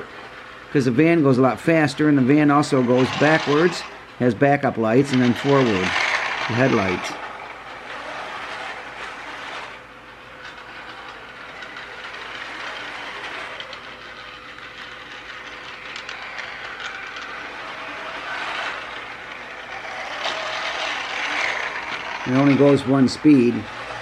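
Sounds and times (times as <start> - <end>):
toy train motor whir: 0.0 - 24.0.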